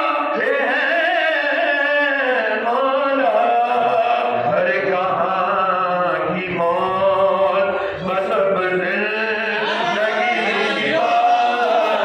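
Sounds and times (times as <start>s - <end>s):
lead male voice singing: 0.0s - 12.0s
men singing a devotional chant: 0.0s - 12.0s.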